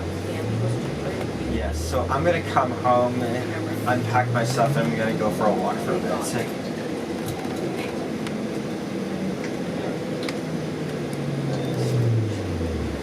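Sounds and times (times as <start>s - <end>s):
bus engine and ventilation: 0.0s - 13.0s.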